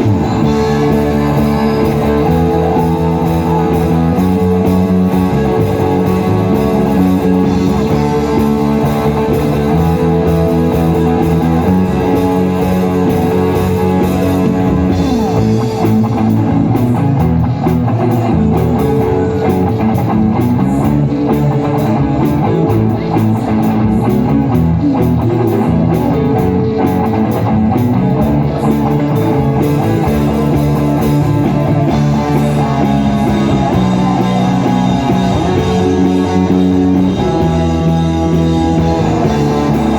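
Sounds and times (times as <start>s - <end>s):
drum kit: 0.0s - 39.9s
guitar: 0.0s - 39.9s
worship band playing: 0.0s - 39.9s.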